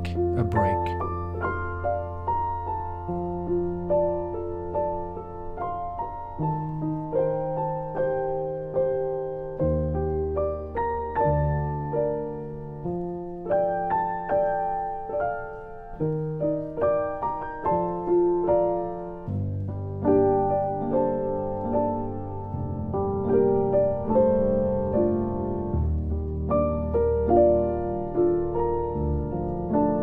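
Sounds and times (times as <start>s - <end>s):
slow piano piece: 0.0s - 30.0s.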